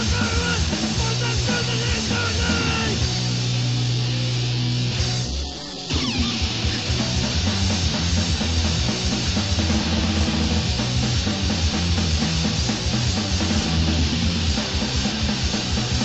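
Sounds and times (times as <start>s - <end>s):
crust punk music: 0.0s - 16.0s.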